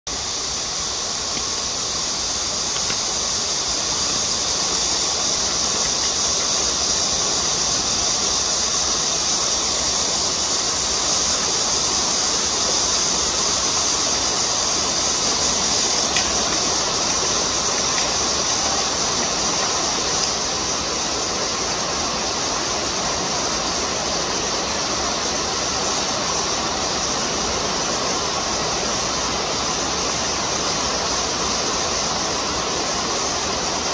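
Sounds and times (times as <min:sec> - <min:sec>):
cicadas buzzing: 0:00.1 - 0:33.9.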